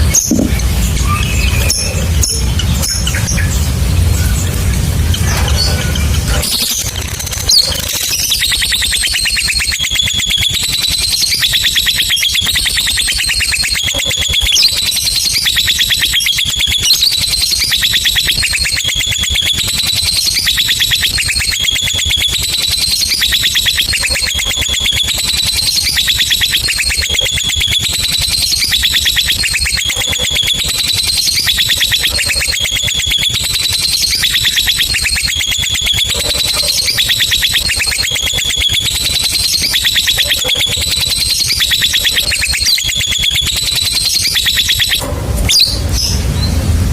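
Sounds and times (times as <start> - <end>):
lovebird chattering trill: 4.4 - 45.0.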